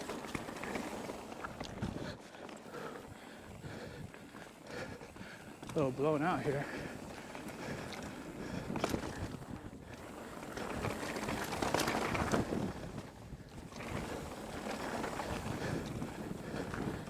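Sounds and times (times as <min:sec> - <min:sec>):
wind rush on camera: 0:00.0 - 0:02.3, 0:03.0 - 0:17.0
bike tyres on dirt: 0:00.0 - 0:17.0.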